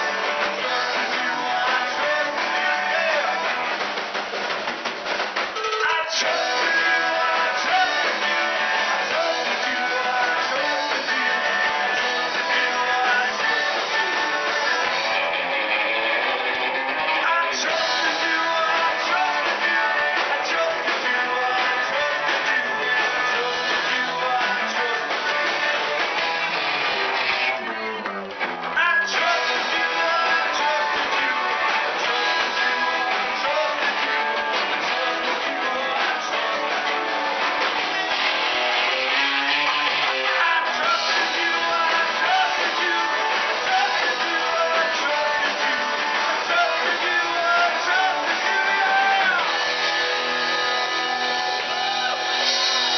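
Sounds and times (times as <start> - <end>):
drums: 0.0 - 52.9
electric guitar: 0.0 - 52.9
live rock band: 0.0 - 52.9.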